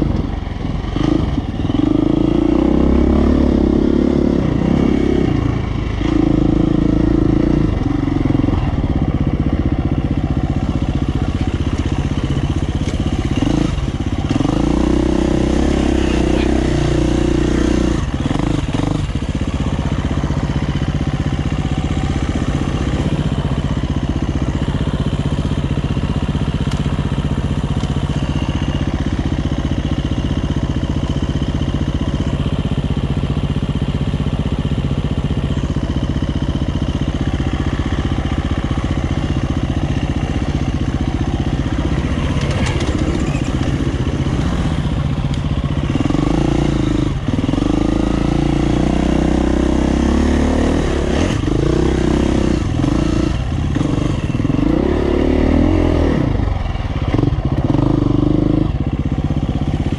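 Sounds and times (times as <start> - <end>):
dirt bike engine idling and revving: 0.0 - 59.9.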